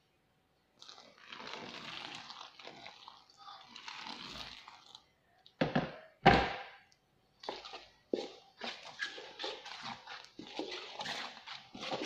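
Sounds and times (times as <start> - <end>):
hand mixing flour in a metal bowl: 0.6 - 5.6, 7.3 - 12.0.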